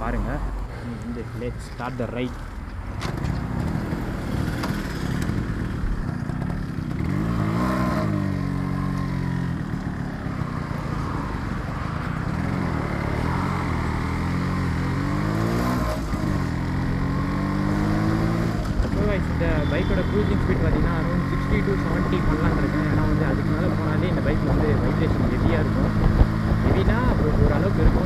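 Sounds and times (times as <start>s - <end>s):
motorcycle engine accelerating: 2.9s - 28.0s.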